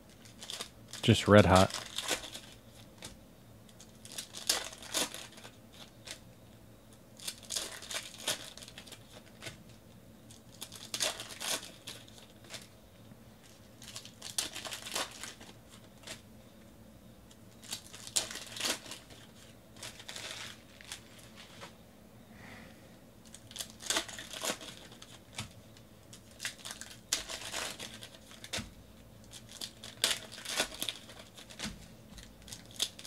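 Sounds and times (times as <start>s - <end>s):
foil wrappers tearing and crinkling: 0.1s - 3.1s, 3.7s - 6.2s, 7.2s - 9.6s, 10.3s - 12.7s, 13.4s - 16.2s, 17.5s - 21.7s, 23.2s - 33.0s.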